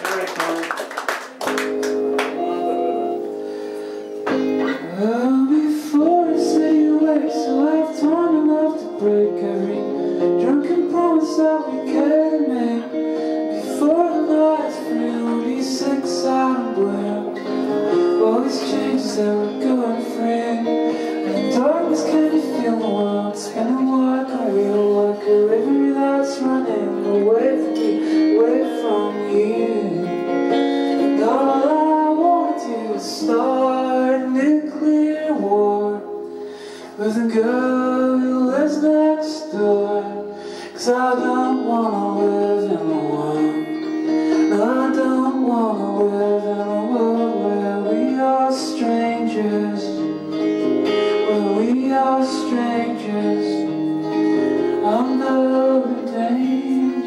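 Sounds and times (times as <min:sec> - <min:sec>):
acoustic guitar: 0:00.0 - 0:57.0
man singing: 0:04.3 - 0:57.0.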